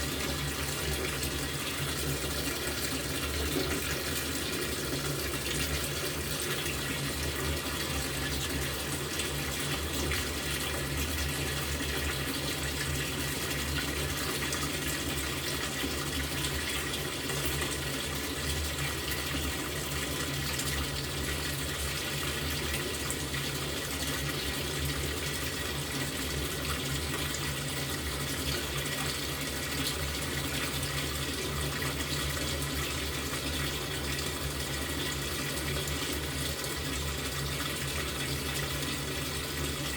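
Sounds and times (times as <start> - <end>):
water pouring into washing machine: 0.0 - 39.9.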